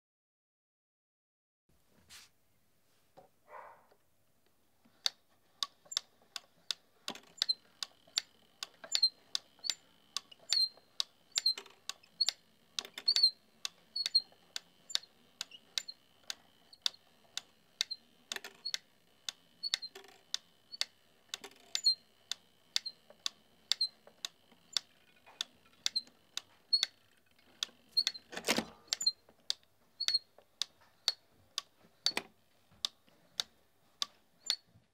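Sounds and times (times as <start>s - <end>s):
wooden crank mechanism clicking: 4.9s - 34.7s.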